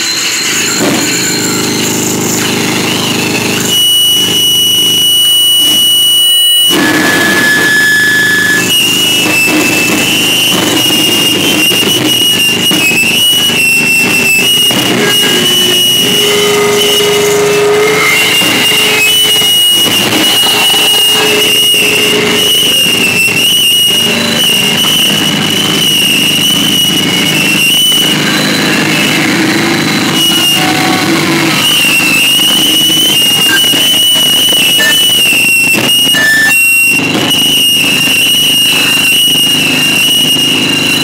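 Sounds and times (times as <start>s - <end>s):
loud distorted noise roar: 0.0s - 41.0s
shrill wavering feedback whine: 0.0s - 41.0s.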